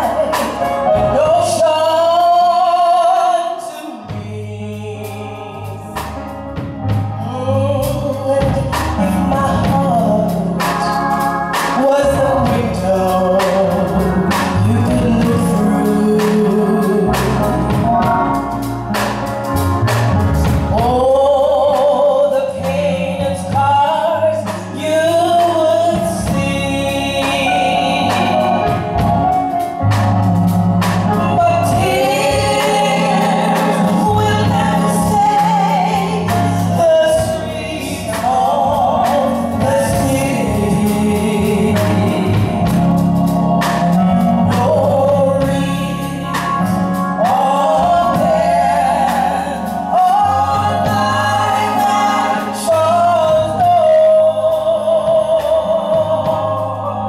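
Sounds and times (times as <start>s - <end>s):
instrumental backing with beat: 0.0s - 3.3s, 3.9s - 57.0s
women singing gospel song: 0.0s - 6.3s, 7.2s - 18.2s, 20.4s - 29.3s, 31.0s - 57.0s.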